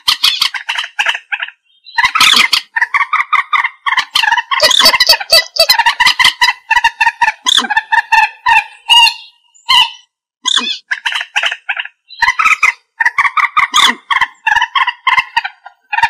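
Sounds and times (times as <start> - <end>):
moorhen calling: 0.0 - 16.0.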